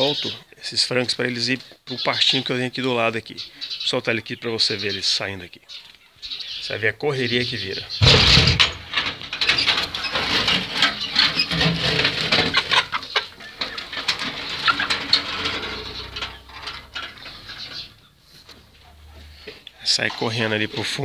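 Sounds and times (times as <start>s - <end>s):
chickens clucking and squawking: 0.0s - 21.0s.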